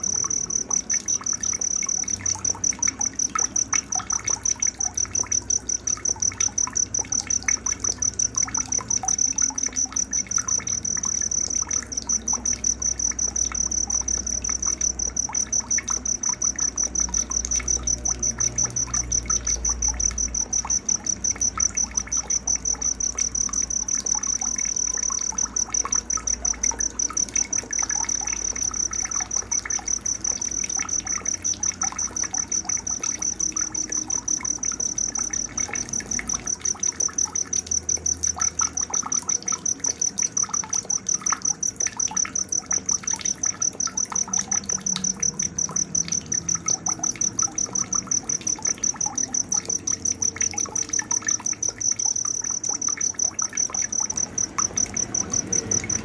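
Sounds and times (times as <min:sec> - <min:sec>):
cricket chirping trill: 0:00.0 - 0:56.0
faint trickle of water: 0:00.0 - 0:56.0.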